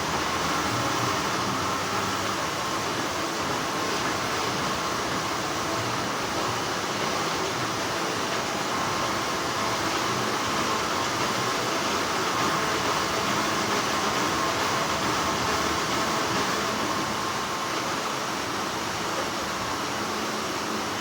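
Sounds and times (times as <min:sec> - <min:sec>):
factory machinery hum: 0:00.0 - 0:21.0.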